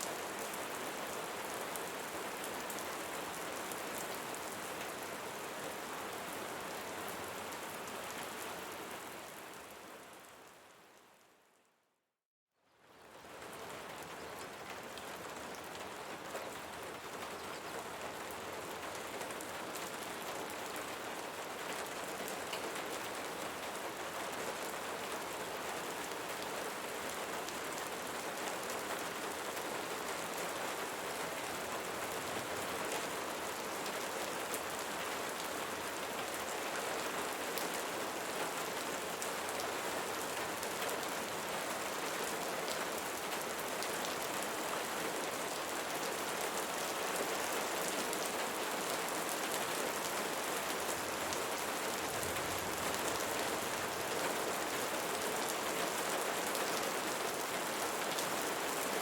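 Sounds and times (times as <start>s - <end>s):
steady rainfall: 0.0s - 11.4s, 12.9s - 59.0s.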